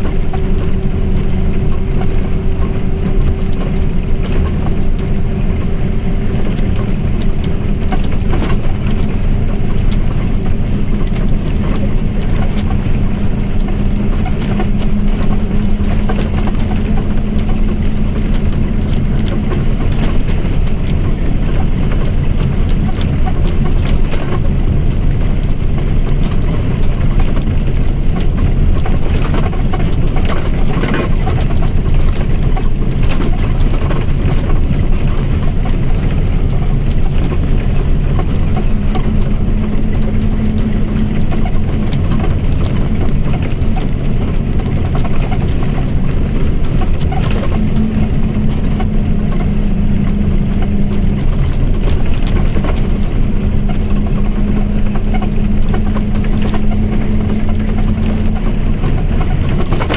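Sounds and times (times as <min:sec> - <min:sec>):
bus diesel engine running: 0:00.0 - 0:59.9
differential whine: 0:00.0 - 0:59.9.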